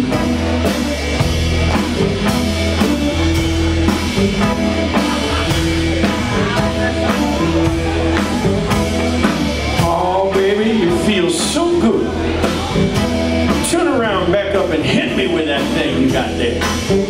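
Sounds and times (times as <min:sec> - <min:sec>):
bass guitar: 0:00.0 - 0:17.0
drum kit: 0:00.0 - 0:17.0
electric guitars: 0:00.0 - 0:17.0.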